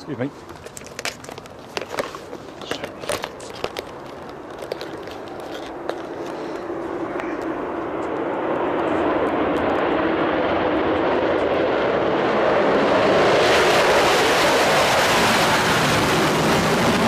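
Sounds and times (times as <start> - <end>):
jet airliner passing overhead: 2.4 - 17.0.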